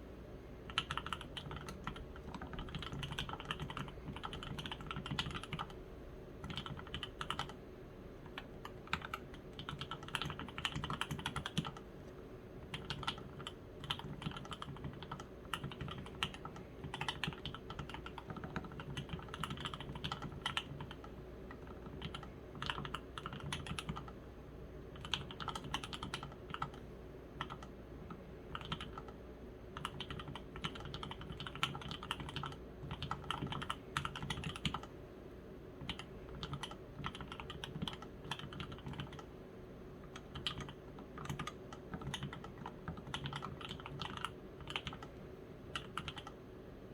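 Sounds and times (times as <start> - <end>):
mechanical keyboard typing: 0.7 - 5.8, 6.4 - 7.6, 8.2 - 11.9, 12.6 - 24.2, 25.0 - 26.8, 27.4 - 29.2, 29.8 - 34.9, 35.8 - 39.3, 40.0 - 46.4.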